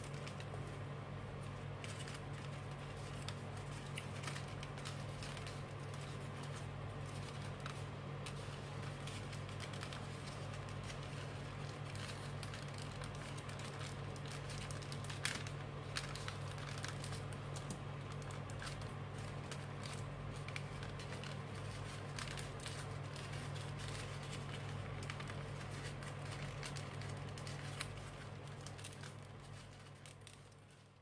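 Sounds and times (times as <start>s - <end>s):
paper crinkling and folding: 0.0s - 31.0s
steady low hum: 0.0s - 31.0s.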